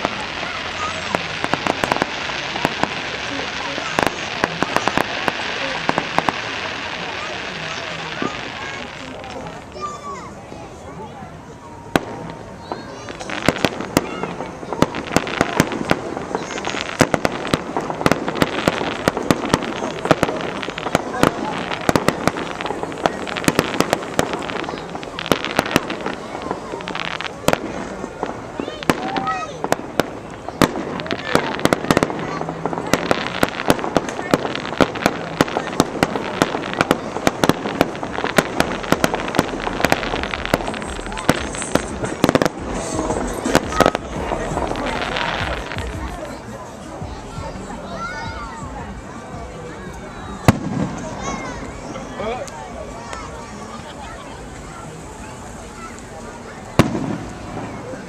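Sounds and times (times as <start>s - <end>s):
fireworks cracking and popping: 0.0s - 10.6s, 11.9s - 49.0s, 49.9s - 58.0s.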